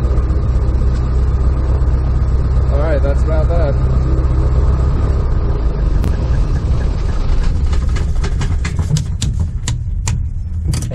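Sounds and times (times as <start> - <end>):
plane engine idling: 0.0 - 10.8.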